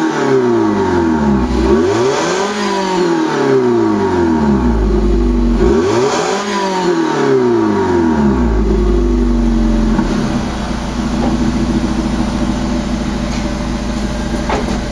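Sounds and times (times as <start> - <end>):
car engine revving then idling: 0.0 - 14.9.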